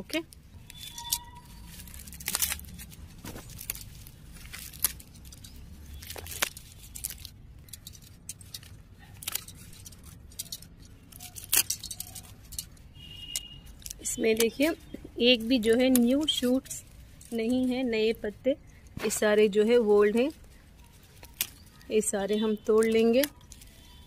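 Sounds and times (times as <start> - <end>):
stems snapping: 0.3 - 17.9, 18.7 - 24.0
leaves rustling: 0.4 - 24.0.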